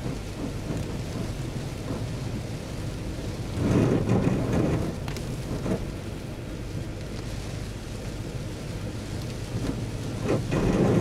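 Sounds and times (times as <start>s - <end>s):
heavy rain on car windshield: 0.0s - 11.0s
moving car rumble: 0.0s - 11.0s.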